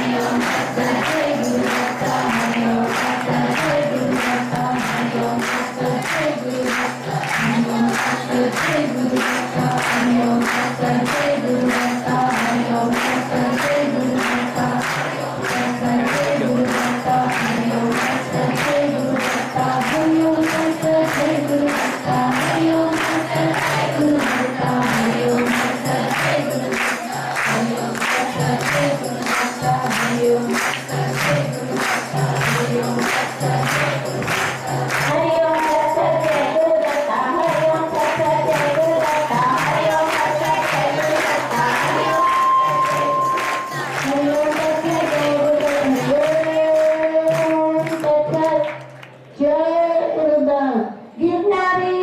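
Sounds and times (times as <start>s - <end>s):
group devotional singing: 0.0s - 48.6s
steady percussion beat: 0.0s - 48.6s.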